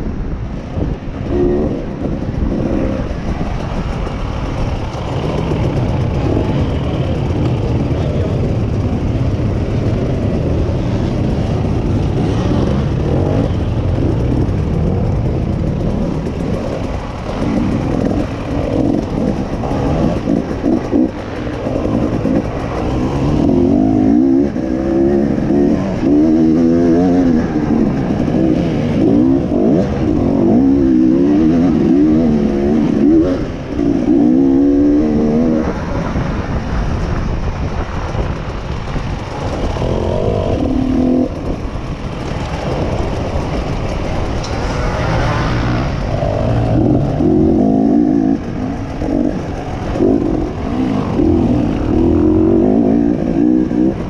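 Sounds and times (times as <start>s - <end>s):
dirt bike engine revving: 1.3s - 36.5s, 38.9s - 54.0s.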